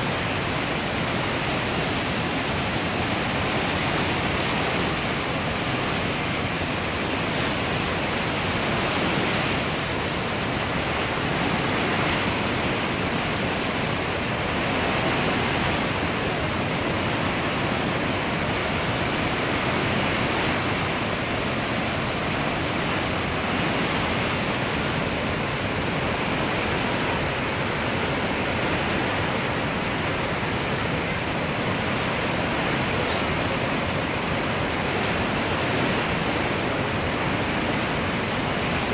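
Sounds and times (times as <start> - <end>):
flooded river rushing: 0.0 - 38.9.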